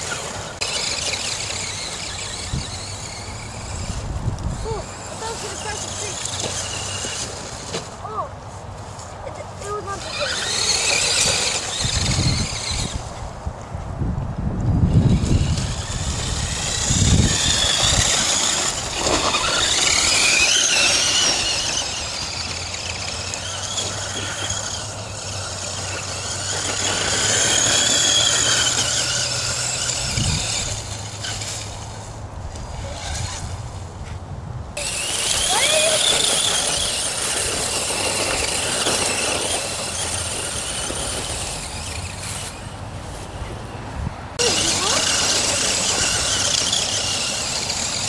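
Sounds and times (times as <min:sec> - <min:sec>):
electric toy truck motor whining: 0:00.0 - 0:08.2, 0:09.6 - 0:13.2, 0:14.7 - 0:33.8, 0:34.8 - 0:43.3, 0:44.4 - 0:48.0.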